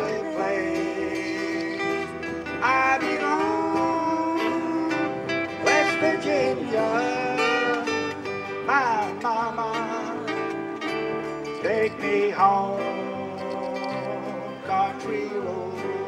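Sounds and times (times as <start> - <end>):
electric guitar: 0.0 - 16.0
strummed acoustic guitars: 0.0 - 16.0.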